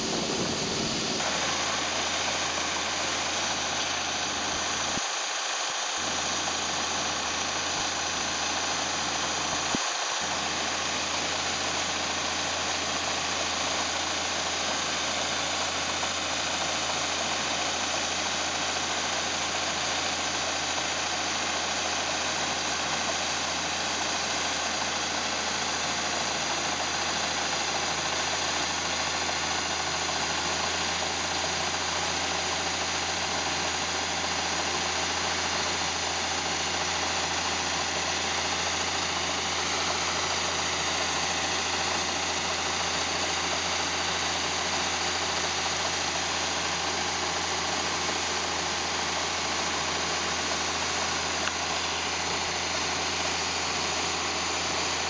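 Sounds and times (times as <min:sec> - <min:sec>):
auger pouring grain: 0:00.0 - 0:55.0
tractor engine running: 0:00.0 - 0:55.0.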